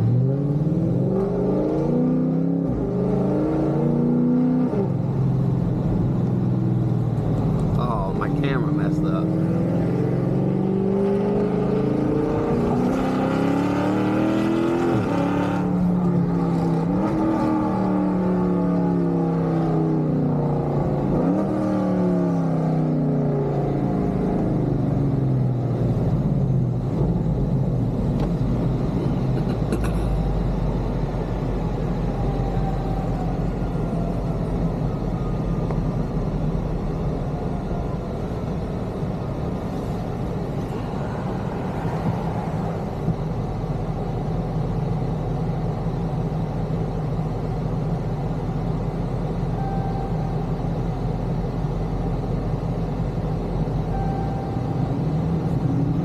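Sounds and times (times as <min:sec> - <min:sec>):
car engine drone inside cabin: 0:00.0 - 0:56.0.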